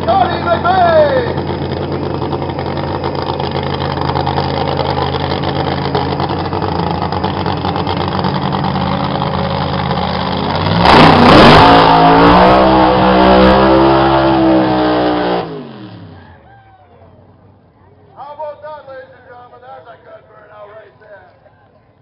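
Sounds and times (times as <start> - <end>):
drag racing car engine: 0.0 - 20.6.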